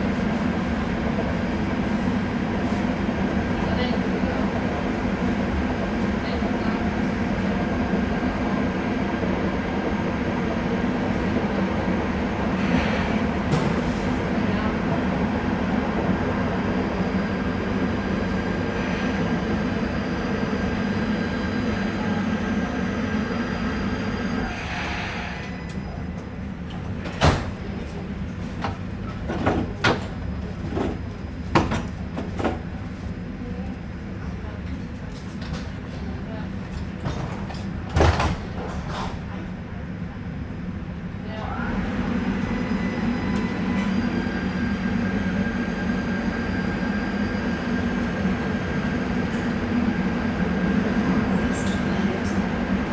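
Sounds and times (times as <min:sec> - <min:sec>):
light-rail car running: 0:00.0 - 0:52.9.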